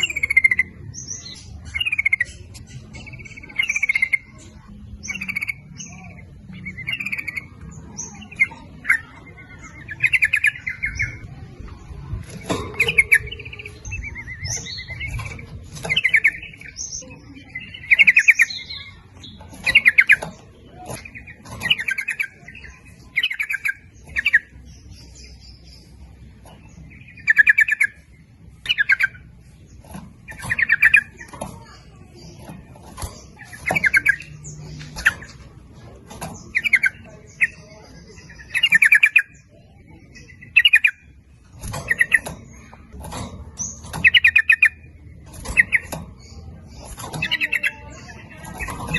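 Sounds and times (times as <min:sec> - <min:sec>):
bird singing bubbly phrases: 0:00.0 - 0:35.6, 0:36.3 - 0:48.9.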